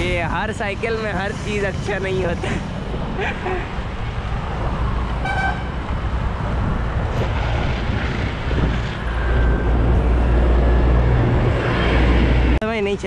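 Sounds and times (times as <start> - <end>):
road and traffic noise: 0.0 - 13.0
wind rumbling on microphone: 0.0 - 13.0.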